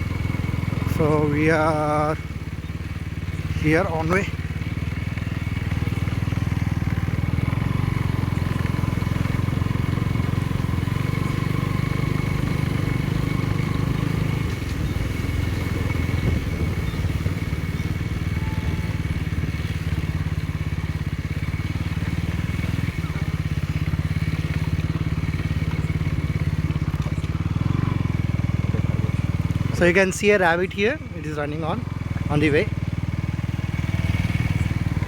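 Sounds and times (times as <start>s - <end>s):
motorcycle engine droning: 0.0s - 35.0s.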